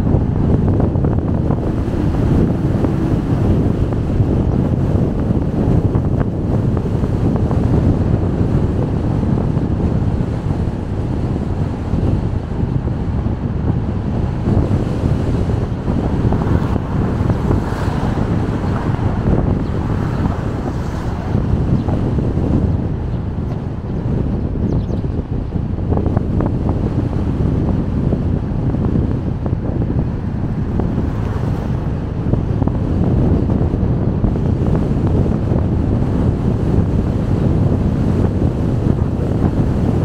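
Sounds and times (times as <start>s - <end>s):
car road and wind noise: 0.0s - 40.0s.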